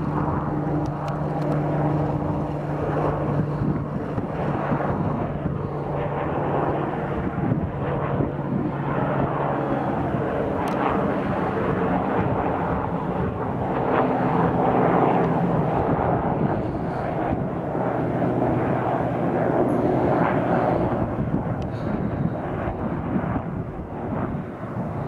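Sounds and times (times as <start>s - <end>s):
light aircraft engine and propeller: 0.0s - 25.0s.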